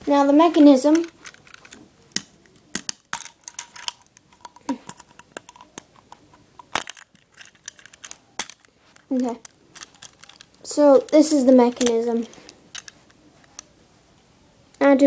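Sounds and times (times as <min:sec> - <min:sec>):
plastic bricks clicking and knocking: 0:00.9 - 0:13.7.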